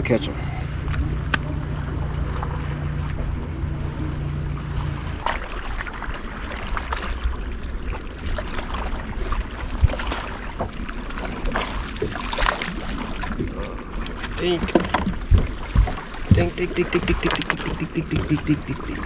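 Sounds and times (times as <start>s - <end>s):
boat motor hum: 0.0s - 19.0s
water lapping and splashing: 0.4s - 19.0s.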